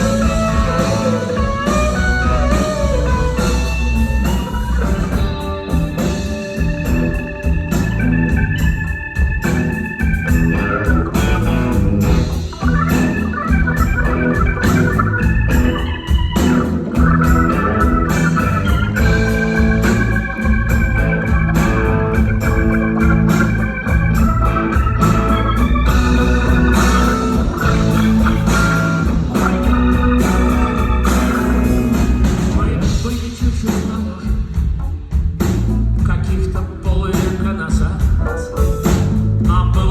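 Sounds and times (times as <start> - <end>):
organ chords: 0.0 - 39.9
rock band playing live: 0.0 - 39.9.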